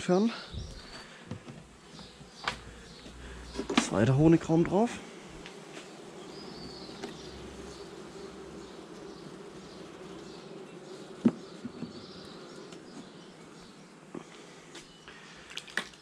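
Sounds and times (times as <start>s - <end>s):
honeybees buzzing: 0.1s - 15.6s.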